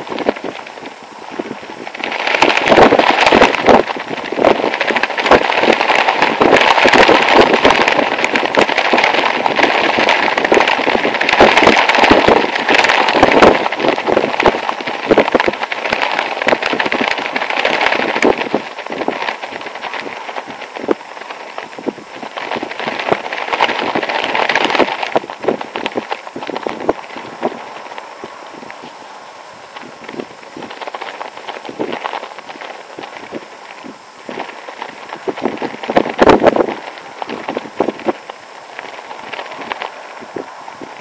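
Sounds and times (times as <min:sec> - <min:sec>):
nylon clothing flapping in wind: 0:00.0 - 0:41.0.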